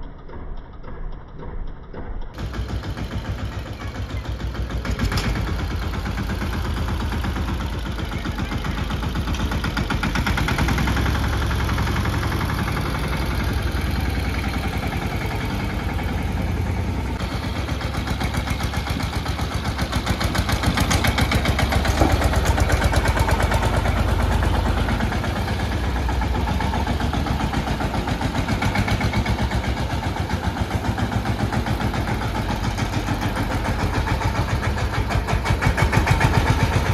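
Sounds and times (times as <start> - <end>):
tractor diesel engine chugging: 2.3 - 36.9.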